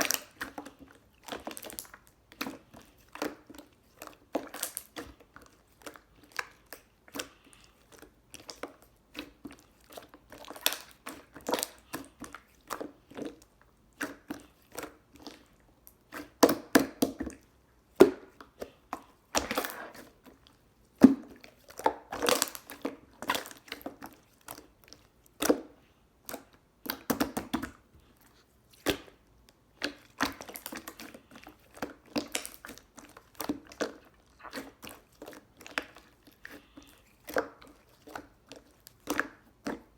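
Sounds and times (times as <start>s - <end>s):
slime squishing and squelching: 0.0s - 39.9s.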